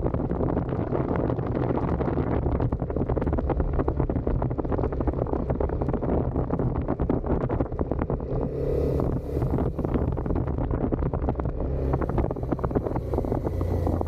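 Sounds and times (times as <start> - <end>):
motorcycle engine cruising: 0.0 - 14.0
wind rushing over microphone: 0.0 - 14.0.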